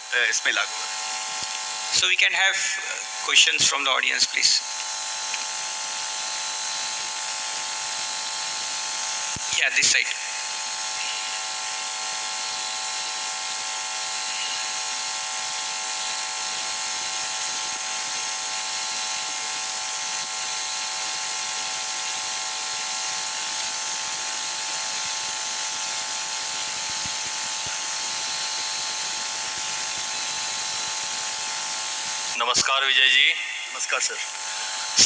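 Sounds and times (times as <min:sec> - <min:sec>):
sound system electrical buzz: 0:00.0 - 0:35.0.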